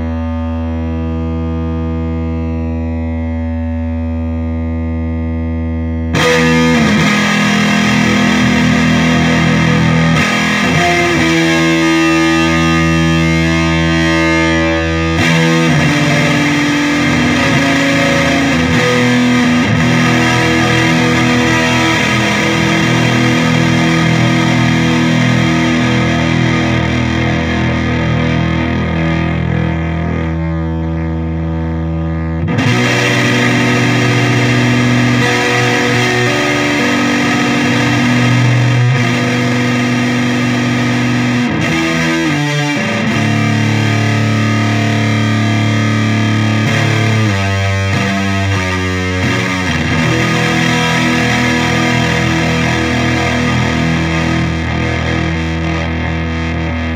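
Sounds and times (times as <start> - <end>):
distorted electric guitar: 0.0 - 56.9.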